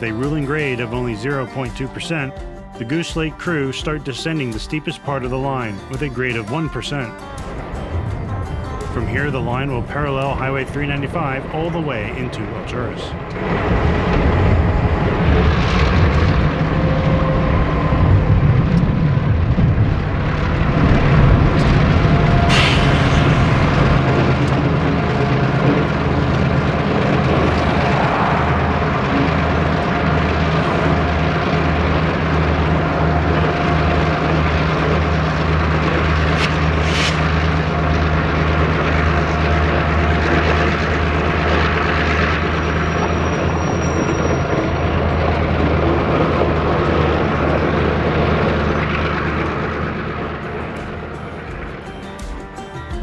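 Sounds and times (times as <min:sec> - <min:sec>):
locomotive engine drone: 0:00.0 - 0:53.0.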